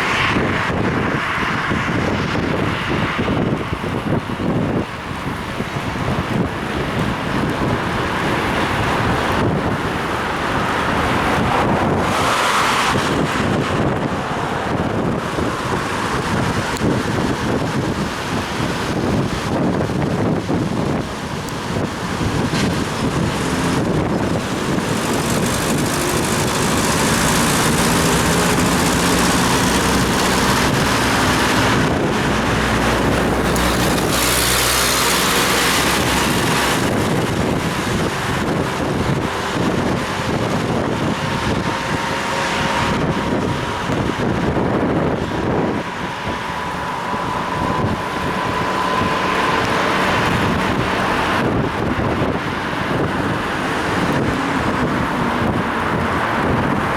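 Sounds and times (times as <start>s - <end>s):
rush with low rumble: 0.0s - 56.9s
traffic passing: 0.0s - 56.9s
wind buffeting microphone: 0.0s - 56.9s.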